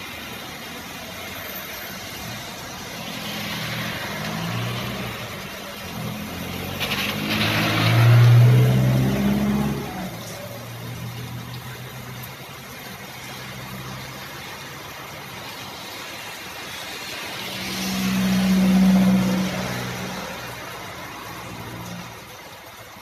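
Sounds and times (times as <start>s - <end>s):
steady rain: 0.0s - 23.0s
vehicle passing on wet road: 0.0s - 23.0s.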